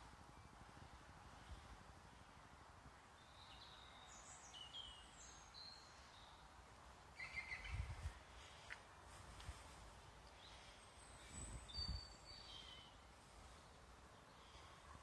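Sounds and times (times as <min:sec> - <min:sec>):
faint birds chirping: 0:00.0 - 0:15.0
low background hiss: 0:00.0 - 0:15.0.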